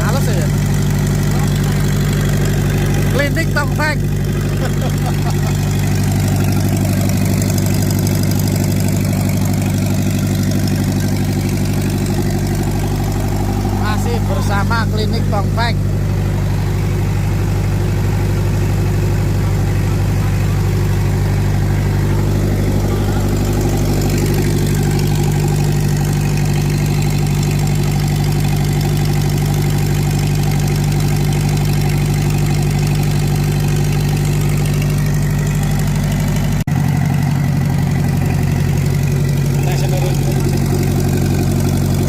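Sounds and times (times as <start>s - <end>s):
diesel generator running: 0.0s - 42.0s.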